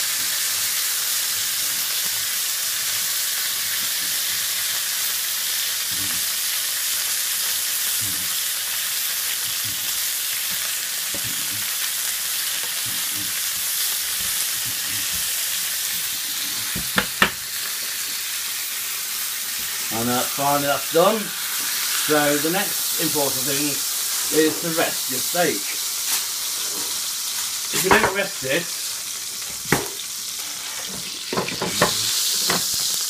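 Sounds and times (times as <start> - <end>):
steak sizzling in a pan: 0.0 - 33.0.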